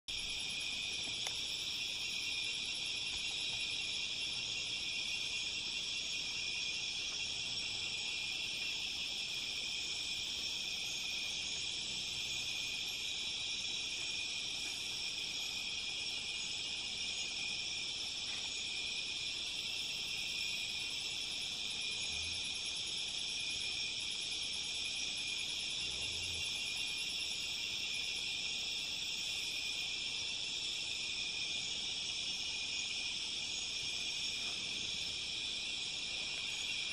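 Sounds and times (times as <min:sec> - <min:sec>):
insects trilling and buzzing: 0:00.1 - 0:36.9
thin high insect tones: 0:00.1 - 0:36.9.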